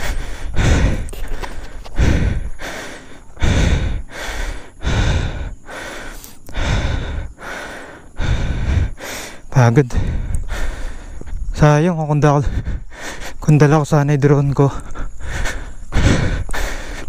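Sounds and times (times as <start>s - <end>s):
man breathing hard: 0.0s - 11.5s, 12.4s - 13.5s, 14.7s - 17.0s.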